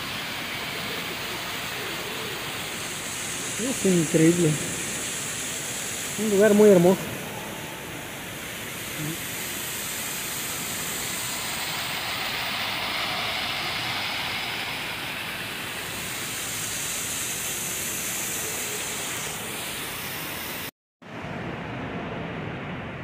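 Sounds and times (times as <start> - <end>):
waterfall splashing over rocks: 0.0 - 20.7.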